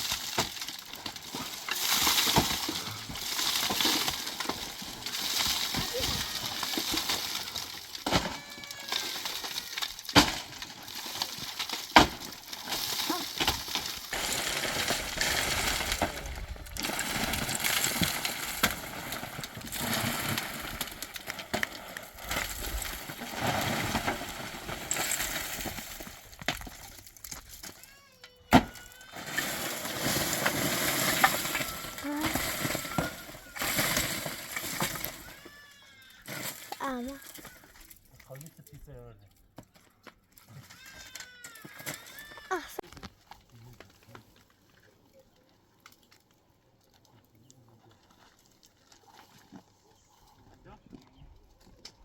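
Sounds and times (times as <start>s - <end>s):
scraping and rustling of materials: 0.0s - 52.0s.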